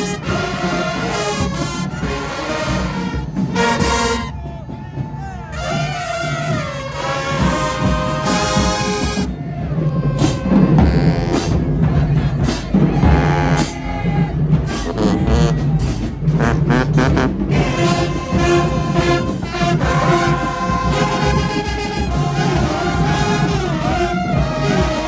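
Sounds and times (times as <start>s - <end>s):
brass sustained notes: 0.0s - 4.6s, 5.3s - 25.0s
marching band drum beats: 0.0s - 25.0s.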